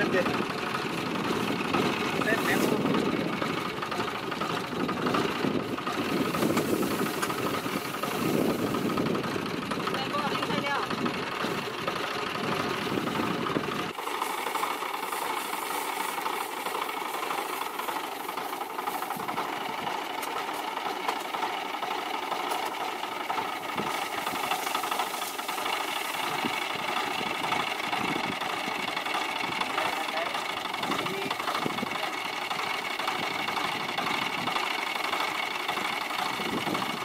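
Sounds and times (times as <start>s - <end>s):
tractor diesel engine idling: 0.0s - 37.0s.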